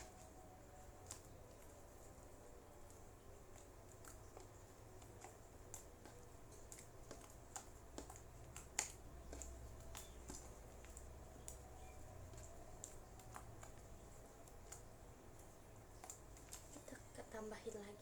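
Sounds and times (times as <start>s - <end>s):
slime kneaded by hand: 0.0s - 18.0s
small clicks and pops: 2.8s - 18.0s.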